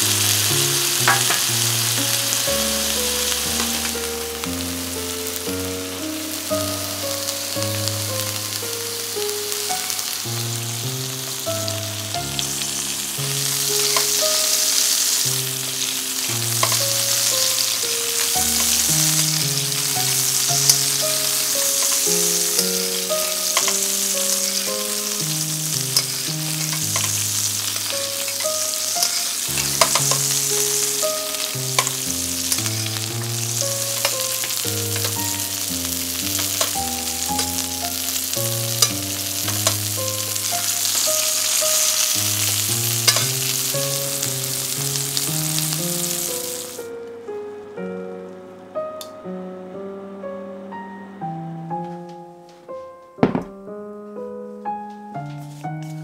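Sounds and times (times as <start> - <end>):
chicken sizzling in pan: 0.0 - 46.9.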